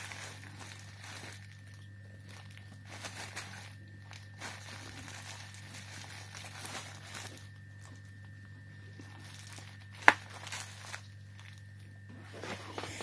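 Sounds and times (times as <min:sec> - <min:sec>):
bubble wrap crinkling: 0:00.0 - 0:13.0
low electrical hum: 0:00.0 - 0:13.0.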